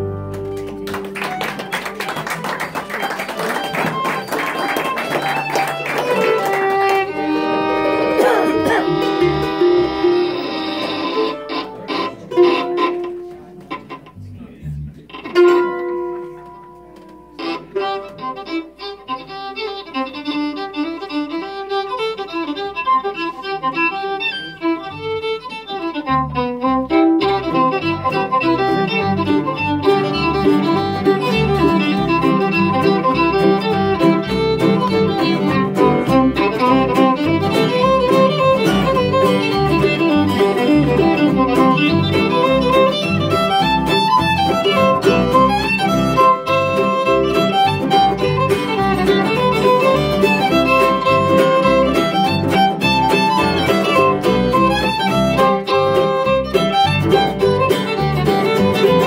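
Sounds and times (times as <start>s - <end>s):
fiddle tune: 0.0s - 59.0s
string band playing: 0.0s - 59.0s.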